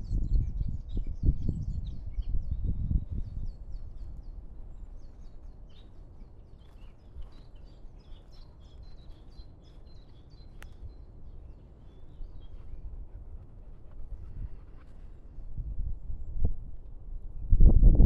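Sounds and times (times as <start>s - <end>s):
songbirds chirping: 0.0s - 17.5s.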